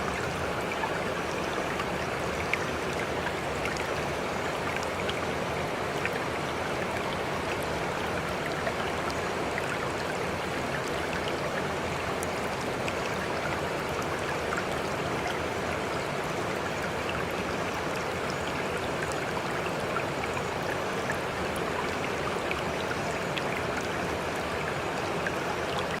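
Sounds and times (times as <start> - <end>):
running water flowing: 0.0 - 26.0.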